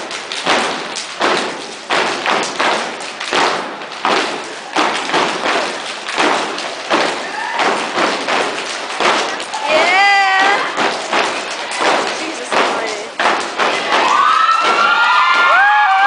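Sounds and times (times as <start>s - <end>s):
stomps on hardwood floor: 0.0s - 15.8s.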